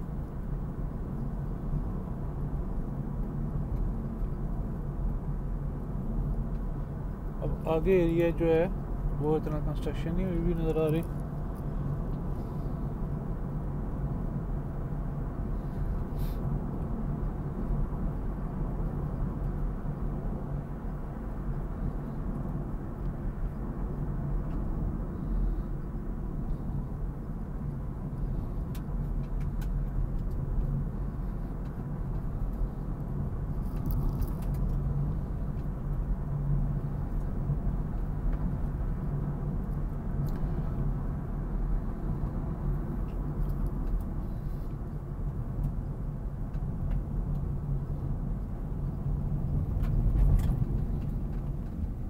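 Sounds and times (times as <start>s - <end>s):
engine and tyre rumble: 0.0s - 52.0s.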